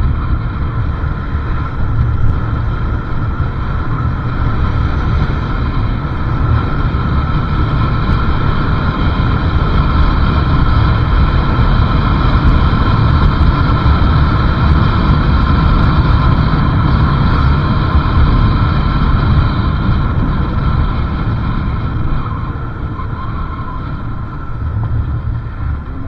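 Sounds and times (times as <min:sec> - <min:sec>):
motorcycle engine running: 0:00.0 - 0:26.0
wind rumbling on microphone: 0:00.0 - 0:26.0.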